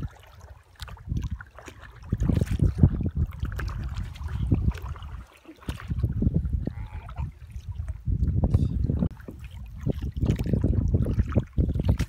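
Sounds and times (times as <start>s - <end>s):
paddles splashing in water: 0.0s - 12.0s
water trickling off paddles: 0.0s - 12.0s
wind rumble on microphone: 0.0s - 12.0s.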